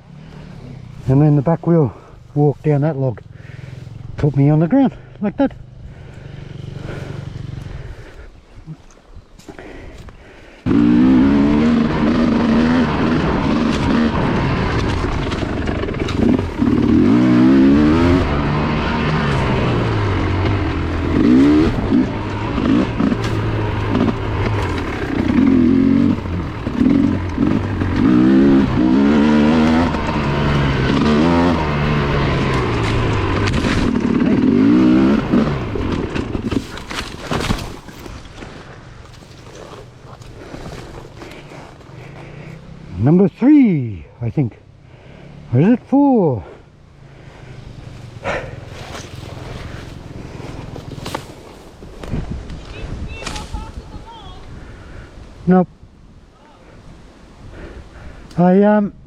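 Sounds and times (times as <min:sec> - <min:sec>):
dirt bike engine revving: 0:00.0 - 0:08.3, 0:10.6 - 0:43.9, 0:44.9 - 0:51.6.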